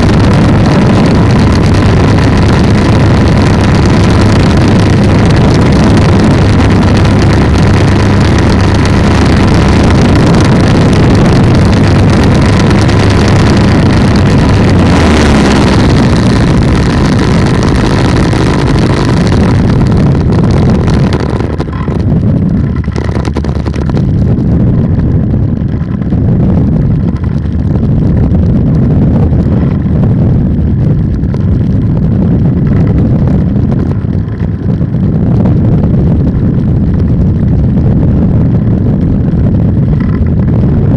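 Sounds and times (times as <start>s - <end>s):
two-stroke engine droning: 0.0s - 40.9s
wind rushing on microphone: 0.0s - 40.9s.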